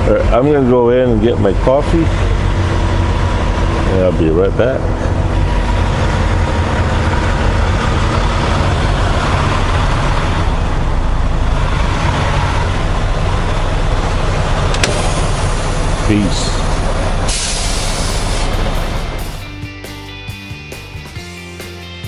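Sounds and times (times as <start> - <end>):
truck diesel engine idling: 0.0 - 19.6.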